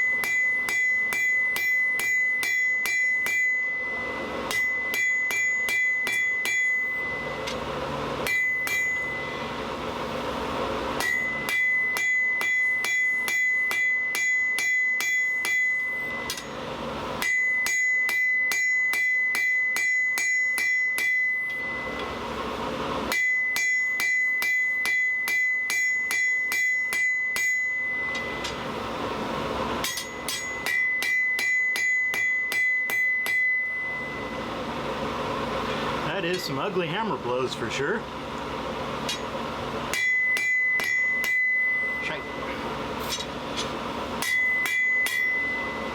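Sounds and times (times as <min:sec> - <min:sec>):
anvil ringing: 0:00.0 - 0:09.8, 0:11.0 - 0:22.3, 0:23.1 - 0:28.8, 0:29.8 - 0:34.7, 0:39.0 - 0:45.9
hammer striking hot steel: 0:00.0 - 0:37.1, 0:38.3 - 0:45.9.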